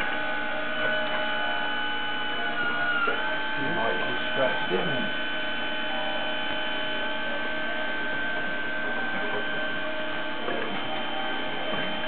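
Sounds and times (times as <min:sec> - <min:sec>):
machine humming with high whine: 0:00.0 - 0:12.0.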